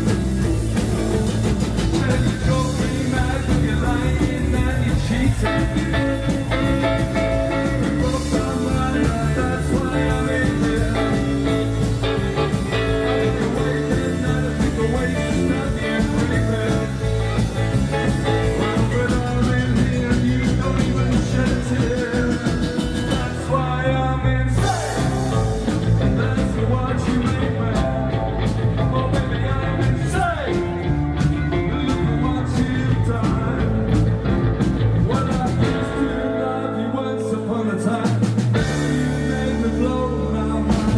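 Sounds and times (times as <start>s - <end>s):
rock and roll band playing live: 0.0s - 40.9s.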